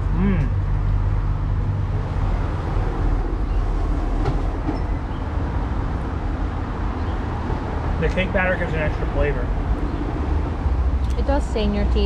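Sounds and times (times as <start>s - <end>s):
heavy vehicle passing: 0.0s - 12.0s.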